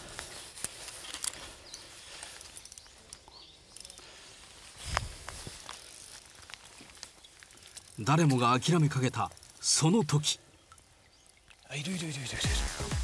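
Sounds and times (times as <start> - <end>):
fishing rod clicks and rustles: 0.0 - 11.6.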